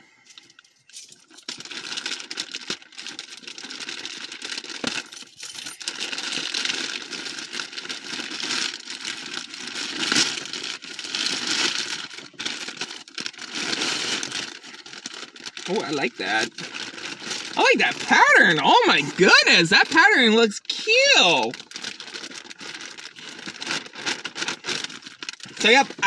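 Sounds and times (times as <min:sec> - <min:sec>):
packaging crinkling and rustling: 0:00.3 - 0:20.3, 0:20.9 - 0:26.0.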